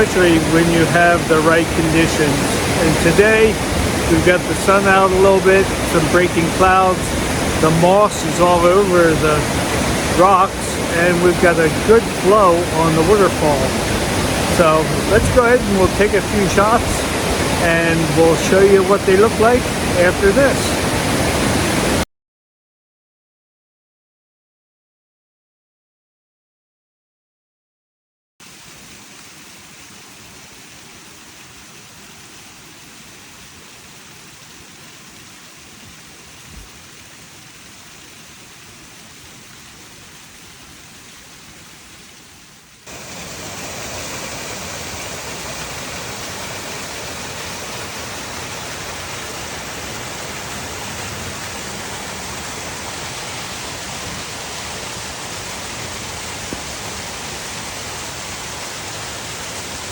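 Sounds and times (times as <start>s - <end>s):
waterfall rushing: 0.0s - 22.0s, 28.4s - 59.9s.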